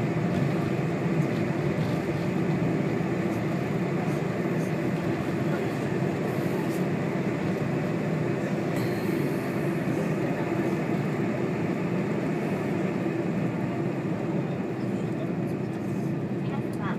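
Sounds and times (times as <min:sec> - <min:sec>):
airliner cabin rumble and hiss: 0:00.0 - 0:16.9.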